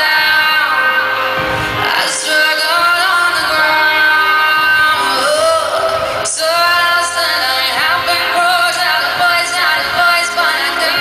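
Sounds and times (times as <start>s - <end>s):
live band playing pop song: 0.0s - 11.0s
woman singing lead vocal: 0.0s - 11.0s.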